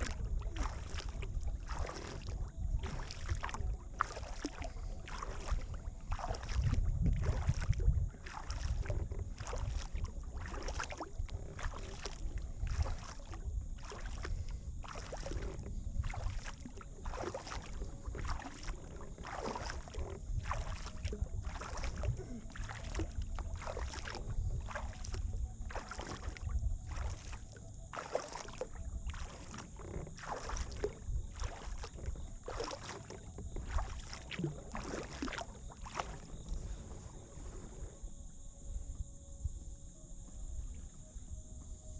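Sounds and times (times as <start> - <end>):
kayak paddle splashing: 0.0 - 39.0.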